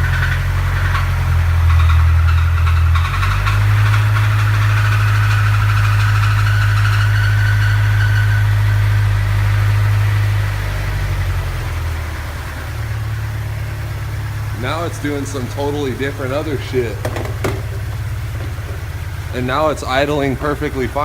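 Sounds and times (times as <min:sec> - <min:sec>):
engine idling unevenly: 0:00.0 - 0:21.0.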